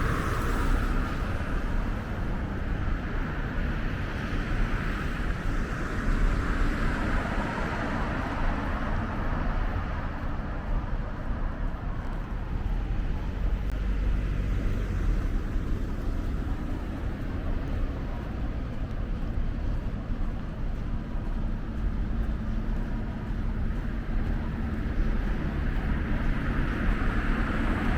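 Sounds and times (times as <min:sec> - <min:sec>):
road traffic passing: 0:00.0 - 0:27.9.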